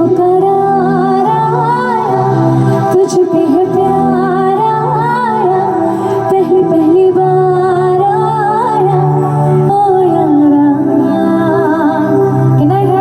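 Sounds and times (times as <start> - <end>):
backing track of sustained chords: 0.0 - 13.0
woman singing with vibrato: 0.0 - 13.0.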